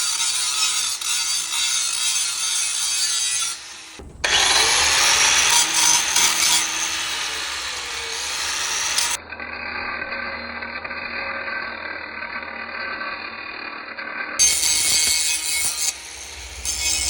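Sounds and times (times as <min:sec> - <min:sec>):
power grinder grinding metal: 0:00.0 - 0:17.0.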